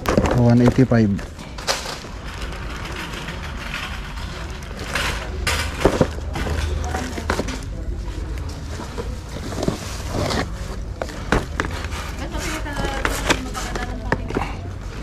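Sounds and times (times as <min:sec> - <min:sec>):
faint background voices: 0:00.0 - 0:15.0
handling noise: 0:00.0 - 0:15.0.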